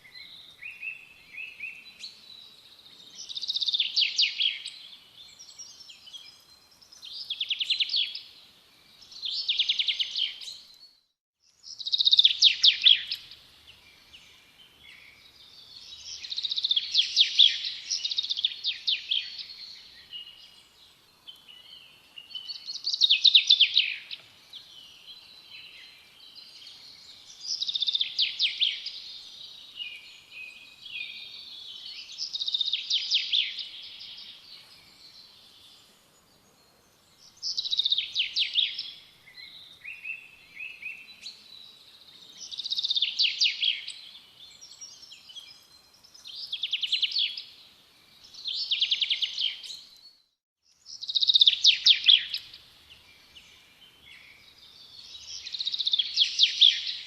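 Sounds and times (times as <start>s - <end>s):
soft bird chirps: 0.0s - 57.0s
songbird trilling song: 0.0s - 57.0s.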